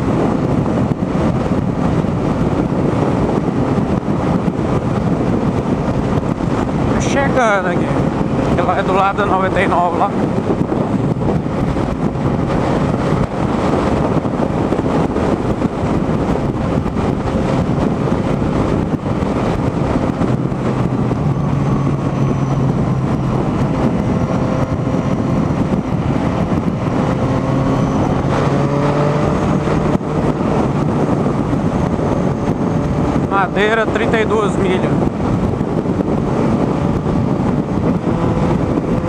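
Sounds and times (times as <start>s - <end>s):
motorcycle engine droning: 0.0s - 39.0s
wind rushing over microphone: 0.0s - 39.0s.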